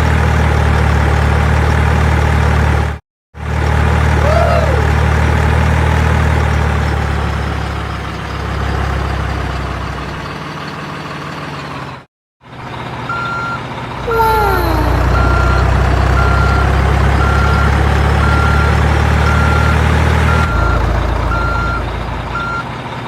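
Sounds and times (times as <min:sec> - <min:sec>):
heavy vehicle engine running: 0:00.0 - 0:12.0, 0:14.9 - 0:23.0.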